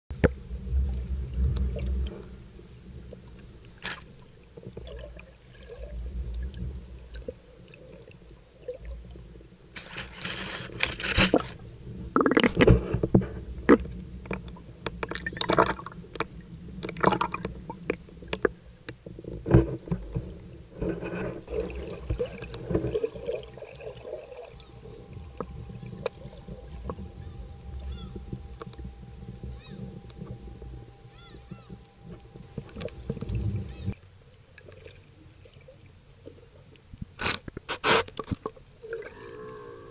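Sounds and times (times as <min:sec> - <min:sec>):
underwater bubbling: 0:00.1 - 0:09.7, 0:11.2 - 0:36.8, 0:38.4 - 0:39.9
underwater rumble: 0:00.1 - 0:34.0, 0:38.6 - 0:39.9
faint steady hum: 0:00.1 - 0:39.9.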